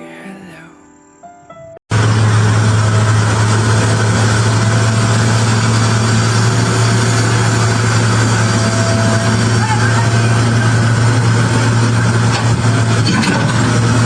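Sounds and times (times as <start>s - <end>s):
heavy machine engine running: 1.9s - 14.0s.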